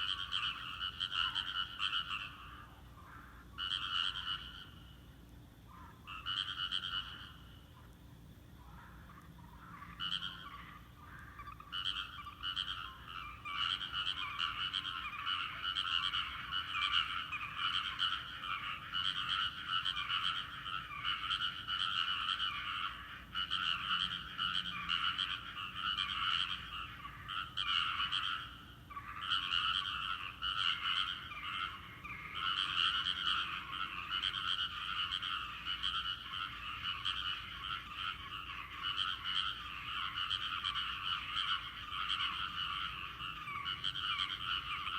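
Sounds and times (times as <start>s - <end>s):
chorus of frogs croaking: 0.0s - 44.9s.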